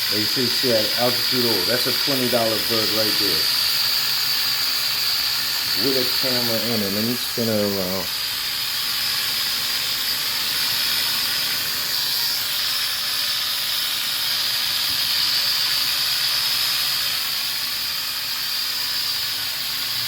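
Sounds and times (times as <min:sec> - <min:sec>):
toy drone propellers whining: 0:00.0 - 0:20.0.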